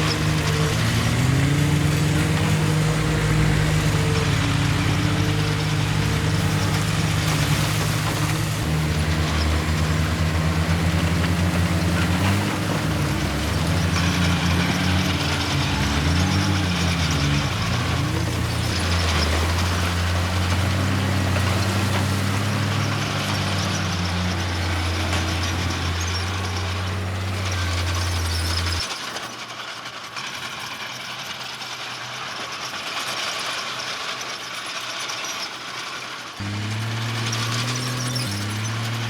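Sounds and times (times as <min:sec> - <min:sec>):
heavy diesel engine under load: 0:00.0 - 0:39.0.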